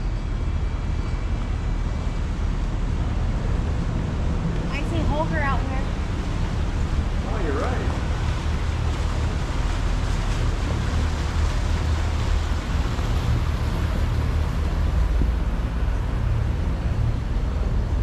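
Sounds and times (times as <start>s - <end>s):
motorboat engine rumble: 0.0s - 18.0s
rushing water: 0.0s - 18.0s.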